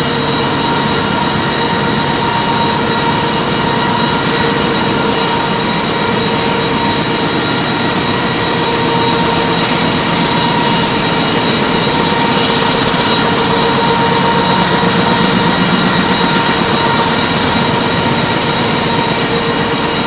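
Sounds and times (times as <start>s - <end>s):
printing press running at speed: 0.0s - 20.0s.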